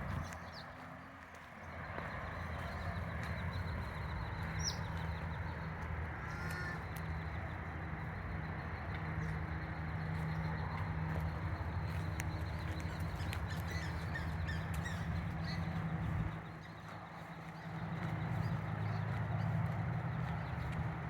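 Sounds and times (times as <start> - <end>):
bird calls: 1.6 - 21.0.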